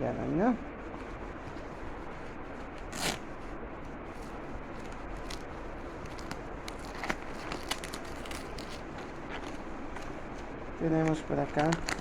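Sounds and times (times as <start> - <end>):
fabric pouch rustling: 0.8 - 10.6, 11.3 - 12.0.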